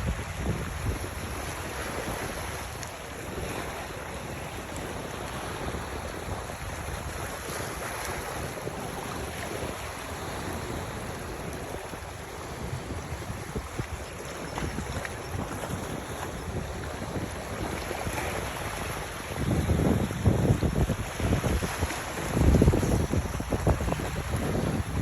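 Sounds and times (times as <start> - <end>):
water rushing: 0.0 - 25.0
wind: 0.0 - 25.0.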